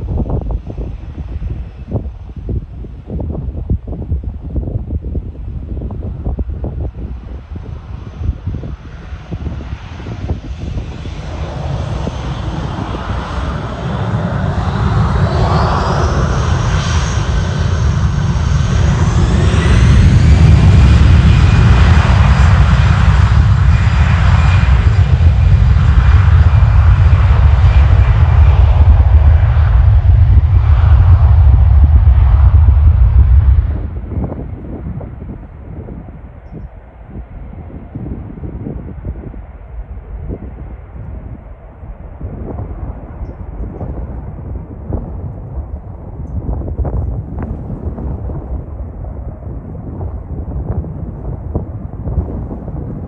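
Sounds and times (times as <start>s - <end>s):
aircraft engines roaring: 0.0s - 53.0s.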